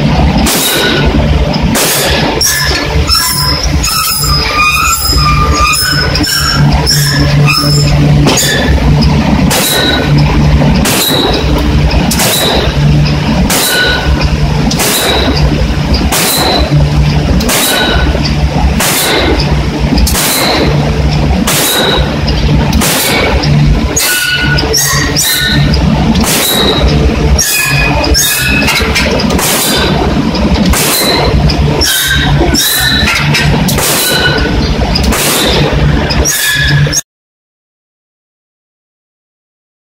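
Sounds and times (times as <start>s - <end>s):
forging hammer striking steel: 0.0s - 37.0s
low machine hum: 0.0s - 37.0s.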